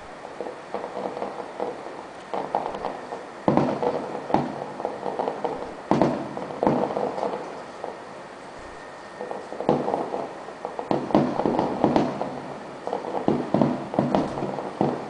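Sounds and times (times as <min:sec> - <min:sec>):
fireworks bangs: 0:00.0 - 0:15.0
fireworks crackling pops: 0:00.0 - 0:15.0.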